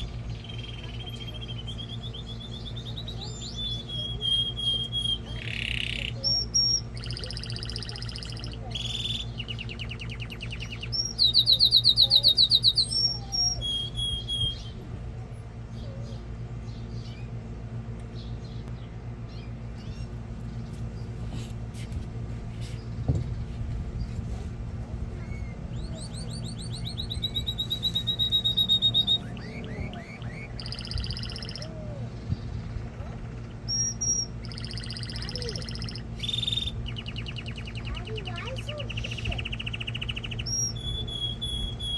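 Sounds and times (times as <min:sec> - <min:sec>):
canary singing trills: 0:00.0 - 0:21.2, 0:25.0 - 0:41.9
steady low hum: 0:00.0 - 0:41.9.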